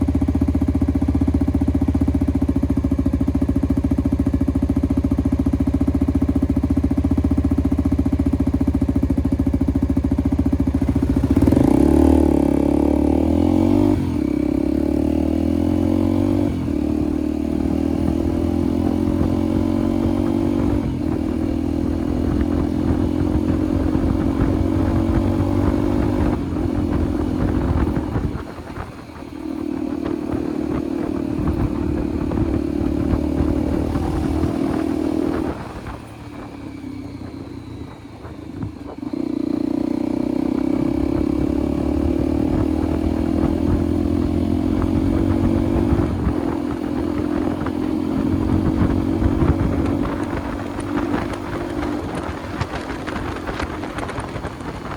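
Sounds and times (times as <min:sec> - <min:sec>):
road rumble: 0:00.0 - 0:54.9
wind: 0:00.0 - 0:54.9
motorcycle engine pulling: 0:00.1 - 0:54.9.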